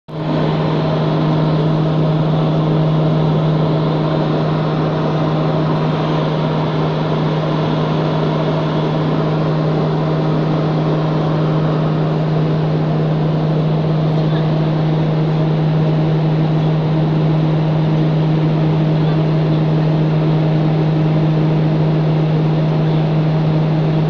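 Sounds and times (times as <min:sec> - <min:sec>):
propeller aeroplane cabin drone: 0:00.1 - 0:24.0.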